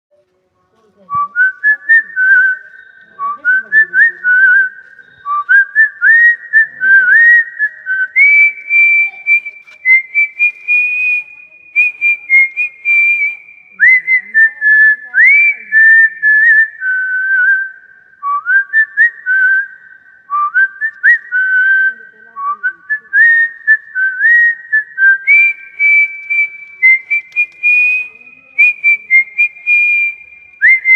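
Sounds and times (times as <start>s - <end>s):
person whistling a melody: 1.1s - 30.9s.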